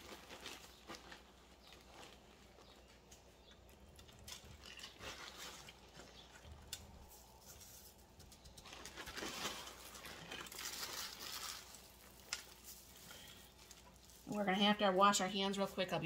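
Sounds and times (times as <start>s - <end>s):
light crackles: 0.0s - 14.4s
crinkling of flakes and plastic bag: 0.0s - 15.8s.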